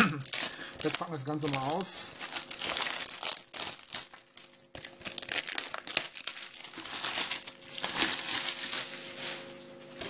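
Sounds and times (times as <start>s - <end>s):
plastic shrink-wrap crinkling and tearing: 0.0s - 10.0s.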